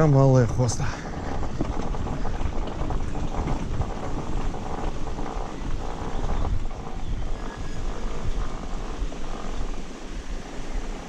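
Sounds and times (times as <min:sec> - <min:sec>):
motorcycle engine running: 0:00.0 - 0:11.0
wind noise on microphone: 0:00.0 - 0:11.0.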